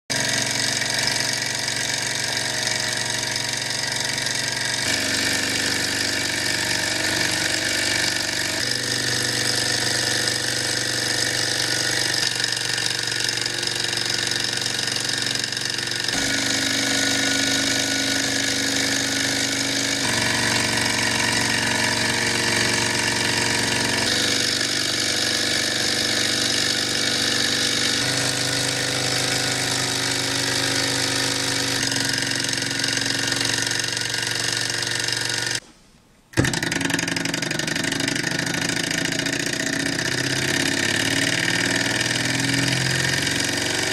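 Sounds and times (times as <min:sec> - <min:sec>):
stirling engines whirring and rattling: 0:00.1 - 0:35.6, 0:37.0 - 0:43.9.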